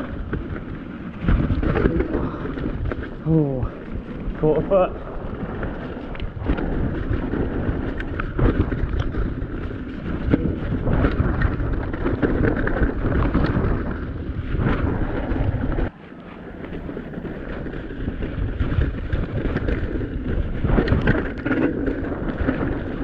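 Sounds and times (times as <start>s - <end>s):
bike clunking and rattling: 0.0s - 23.0s
wind noise on microphone: 0.0s - 23.0s.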